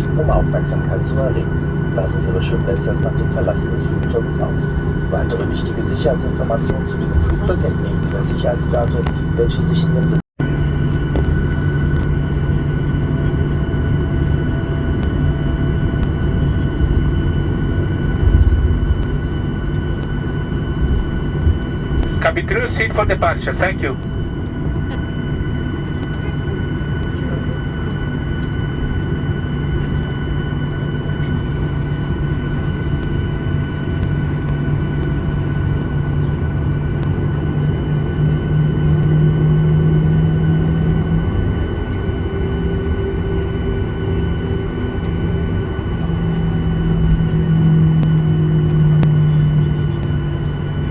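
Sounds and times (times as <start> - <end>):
aircraft cabin rumble and whine: 0.0 - 50.9.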